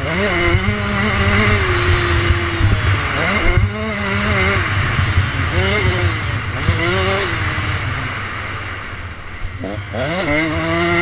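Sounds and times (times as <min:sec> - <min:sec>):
dirt bike engine revving: 0:00.0 - 0:11.0
rush of noise: 0:00.0 - 0:11.0.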